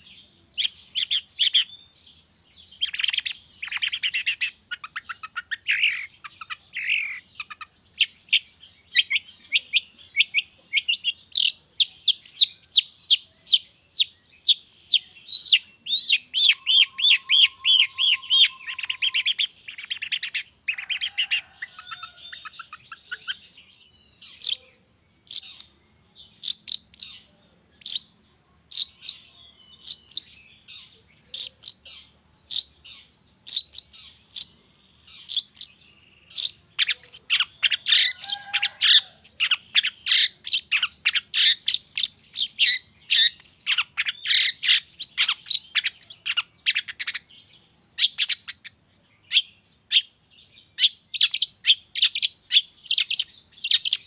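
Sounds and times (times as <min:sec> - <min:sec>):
bird singing chattering trills: 0:00.0 - 0:54.0
sharp bird calls: 0:00.0 - 0:54.0.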